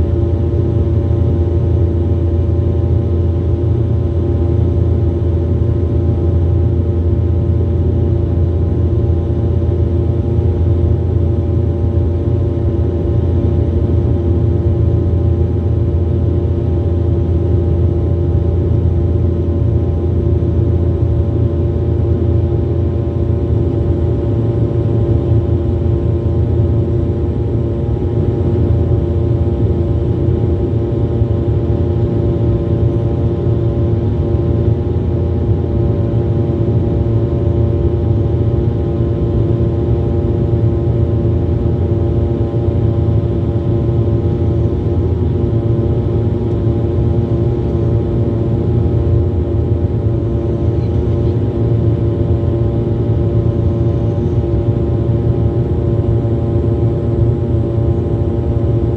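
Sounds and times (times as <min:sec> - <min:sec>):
jet engine drone: 0:00.0 - 0:58.9.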